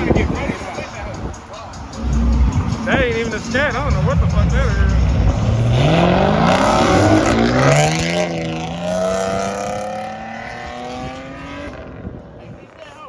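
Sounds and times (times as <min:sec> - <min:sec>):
car engine accelerating: 0:01.8 - 0:12.4.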